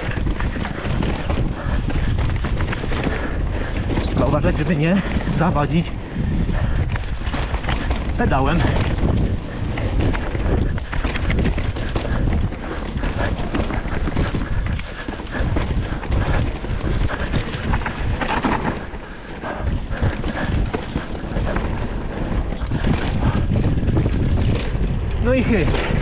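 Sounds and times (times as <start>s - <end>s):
mountain bike clattering over rocks: 0.0s - 26.0s.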